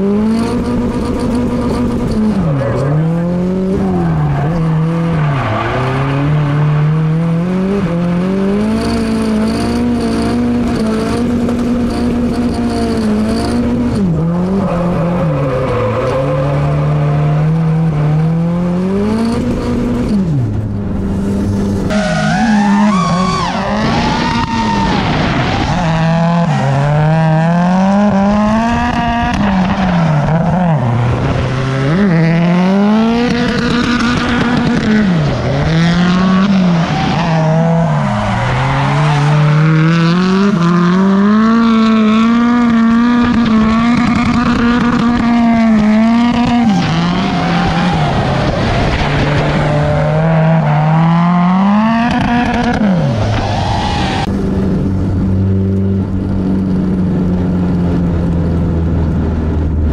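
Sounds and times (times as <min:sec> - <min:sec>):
car engine revving hard: 0:00.0 - 0:56.5.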